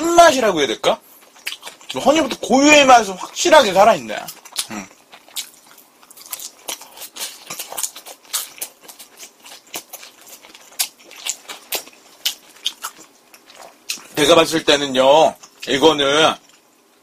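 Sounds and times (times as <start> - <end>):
person chewing: 1.1 - 14.4, 15.3 - 17.0.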